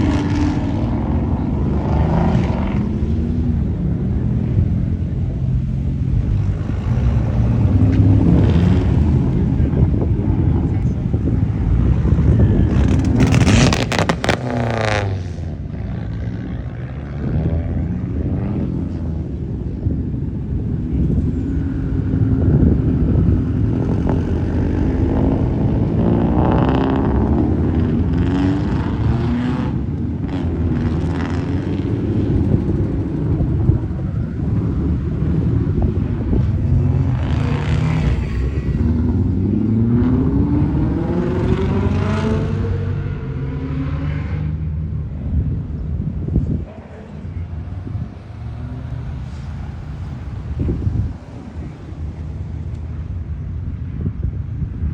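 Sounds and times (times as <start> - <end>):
cars accelerating away: 0.0 - 45.0.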